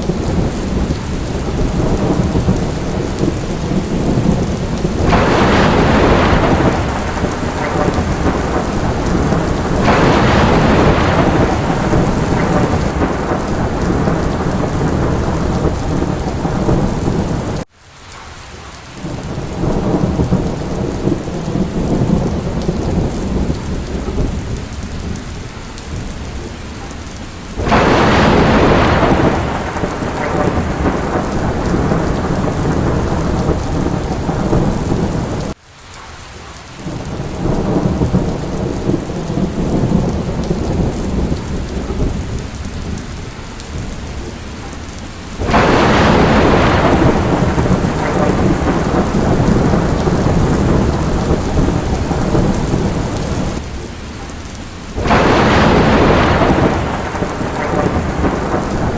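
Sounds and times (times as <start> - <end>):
thunder claps and rumble: 0.0 - 17.7, 19.0 - 35.6, 36.8 - 58.9
steady rain: 0.0 - 58.9.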